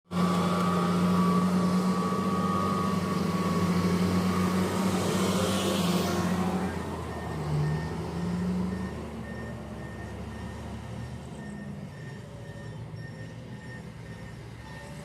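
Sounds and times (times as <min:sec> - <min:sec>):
truck engine running: 0:00.1 - 0:15.0.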